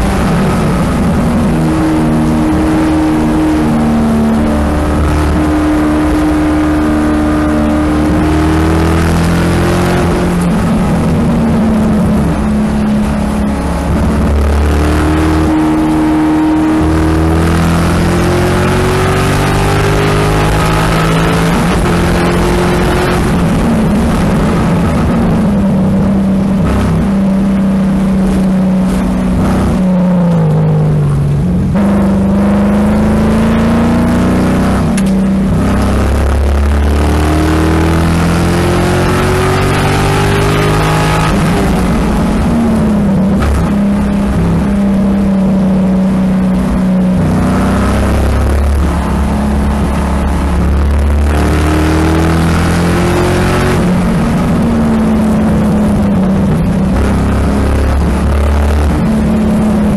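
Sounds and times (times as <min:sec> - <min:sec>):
car engine at full throttle: 0:00.0 - 0:59.9
wind noise: 0:00.0 - 0:59.9.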